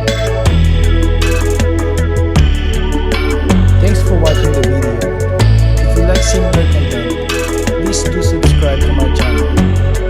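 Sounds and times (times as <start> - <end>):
hip-hop track with heavy bass: 0.0 - 10.0.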